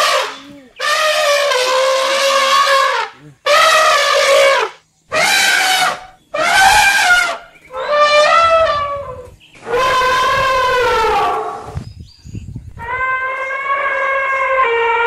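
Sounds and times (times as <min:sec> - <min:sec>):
elephant trumpeting: 0:00.0 - 0:11.8, 0:12.8 - 0:15.0.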